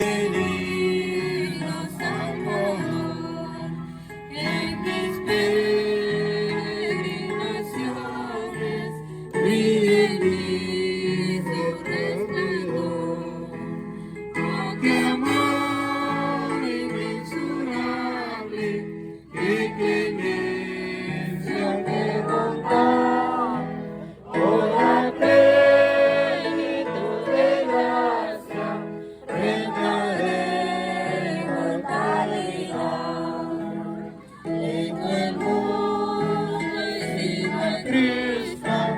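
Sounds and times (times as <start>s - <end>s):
group singing a hymn: 0.0s - 38.9s.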